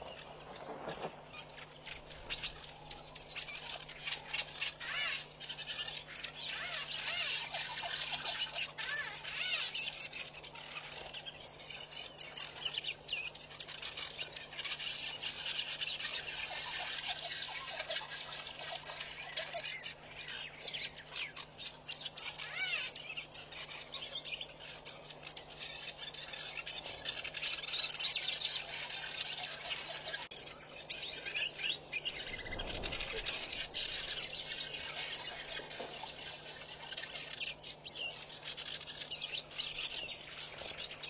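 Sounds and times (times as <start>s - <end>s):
birds chirping in chorus: 0.0s - 41.0s
faint low hum: 0.0s - 41.0s
insects: 0.0s - 41.0s.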